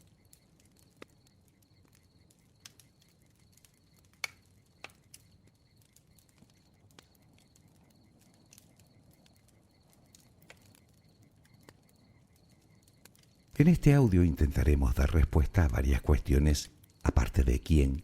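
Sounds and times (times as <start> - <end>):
bonfire crackling: 0.0 - 18.0.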